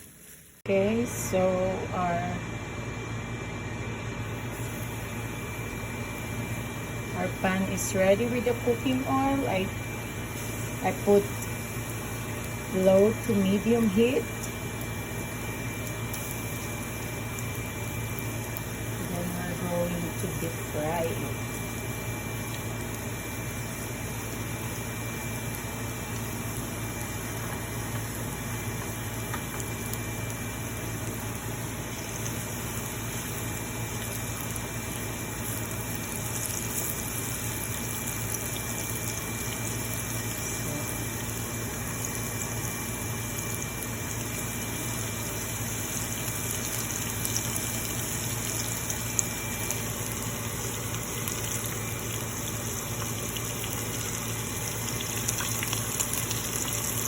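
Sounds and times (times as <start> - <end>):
chicken sizzling in hot oil: 0.0 - 3.5, 4.1 - 57.0
steady low hum: 0.1 - 57.0.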